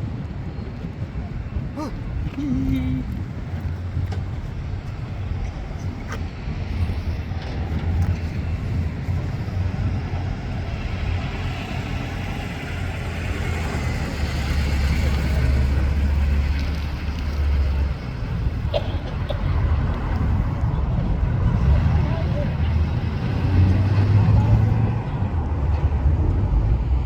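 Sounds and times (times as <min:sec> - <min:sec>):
vehicle noise: 0:00.0 - 0:27.0.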